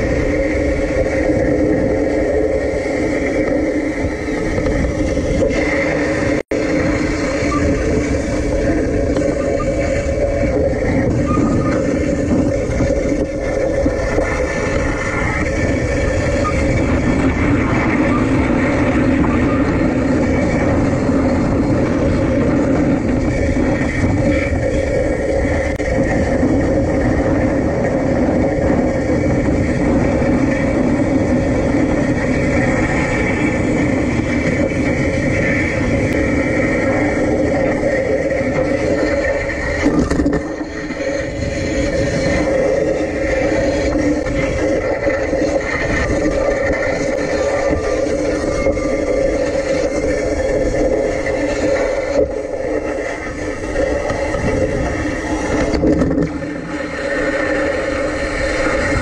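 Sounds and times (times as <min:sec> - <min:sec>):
electric tram running rumble: 0:00.0 - 0:59.0
steady hum: 0:00.0 - 0:59.0.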